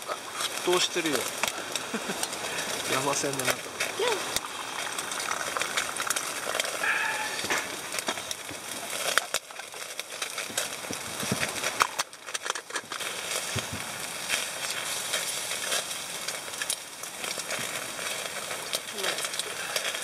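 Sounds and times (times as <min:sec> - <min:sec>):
meat sizzling over charcoal: 0:00.0 - 0:20.0
sharp pops: 0:00.0 - 0:20.0.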